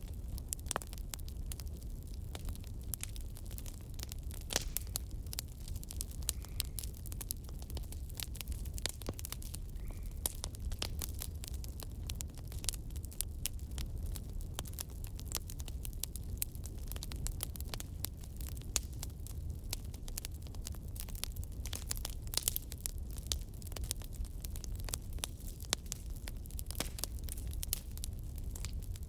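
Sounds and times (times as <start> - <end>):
fire crackling and popping: 0.0 - 29.0
fire rumbling: 0.0 - 29.0.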